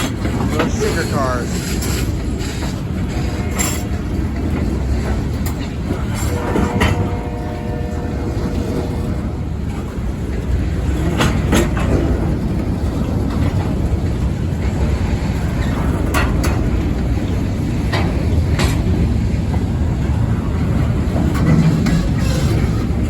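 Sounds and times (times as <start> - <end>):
train wheels rumbling on rail: 0.0 - 23.0
wheels clacking over rail joints: 0.0 - 23.0.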